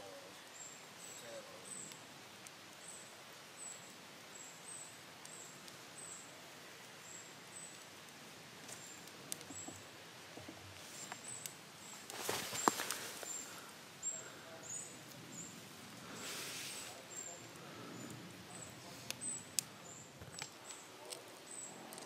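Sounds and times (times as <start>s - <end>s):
campfire crackles: 0.0s - 22.0s
faint steady hiss: 0.0s - 22.0s.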